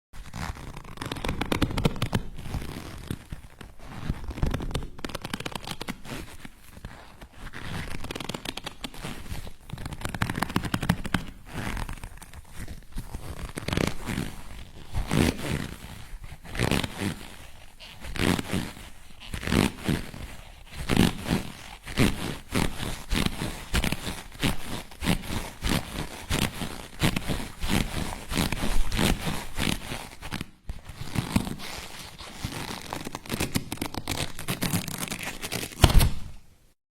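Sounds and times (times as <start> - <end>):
leather creaking: 0.2 - 36.4.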